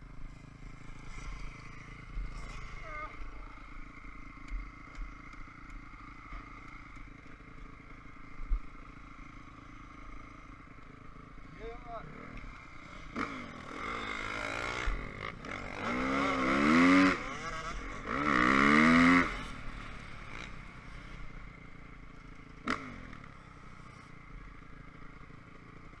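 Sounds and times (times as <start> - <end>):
dirt bike engine revving: 0.3 - 21.4, 22.1 - 25.3.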